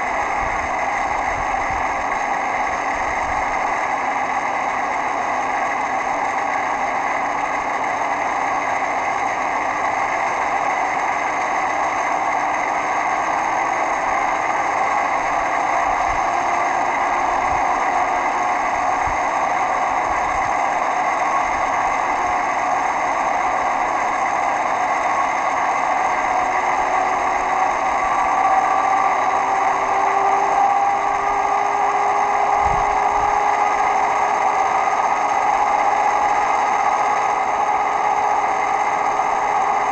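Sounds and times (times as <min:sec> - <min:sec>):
model diesel locomotive engine: 0:00.0 - 0:39.9.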